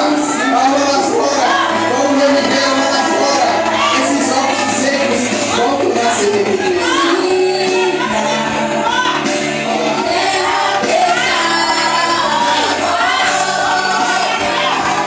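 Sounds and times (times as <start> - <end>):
voices singing worship music: 0.0 - 15.0.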